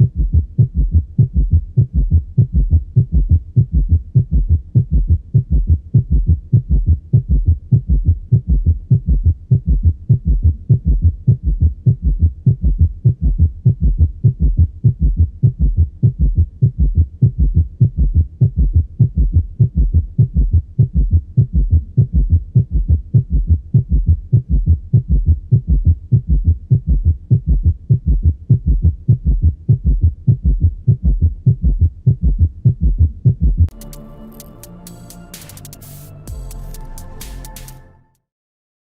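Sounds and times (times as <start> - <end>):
heartbeat through stethoscope: 0.0 - 33.8.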